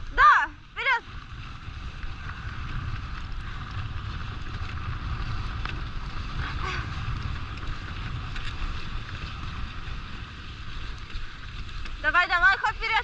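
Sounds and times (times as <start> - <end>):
sled gliding over snow: 0.0 - 13.0
wind on microphone: 0.0 - 13.0.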